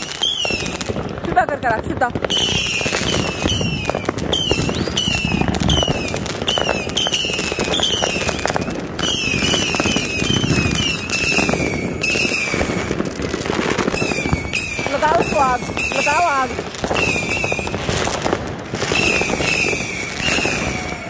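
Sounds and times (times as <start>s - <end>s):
whistling firework shots: 0.0s - 1.3s, 2.0s - 21.0s
firework cracks: 0.0s - 21.0s
fireworks crackling and popping: 0.0s - 21.0s.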